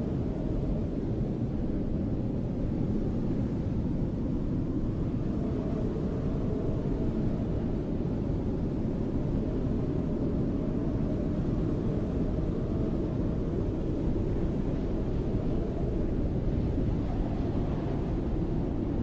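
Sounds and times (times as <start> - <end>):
low howling wind: 0.0 - 19.0.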